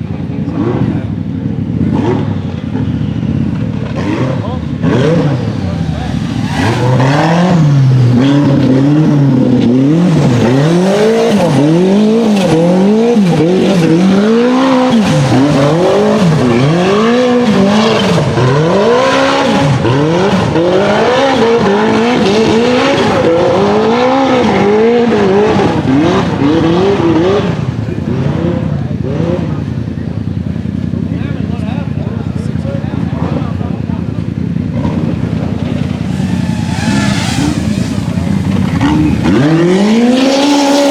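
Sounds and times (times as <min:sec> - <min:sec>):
race buggy engine revving: 0:00.0 - 0:40.9.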